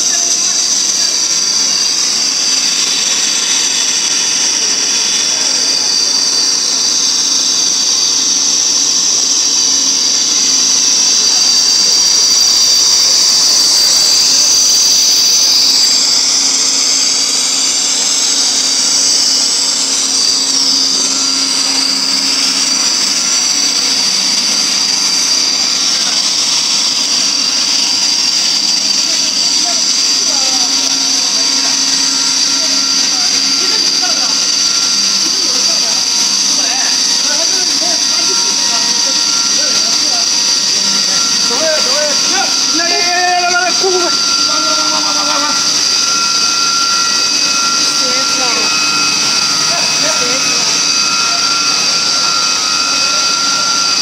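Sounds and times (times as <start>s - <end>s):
high-pitched machine hiss and whine: 0.0s - 54.0s.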